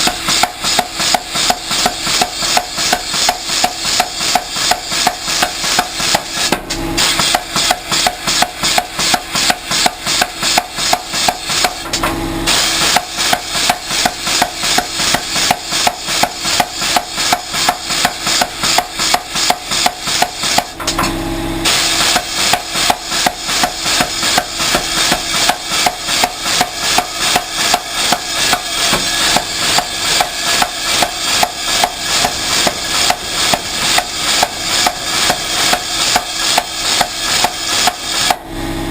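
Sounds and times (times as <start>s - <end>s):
air hammer striking: 0.0s - 38.9s.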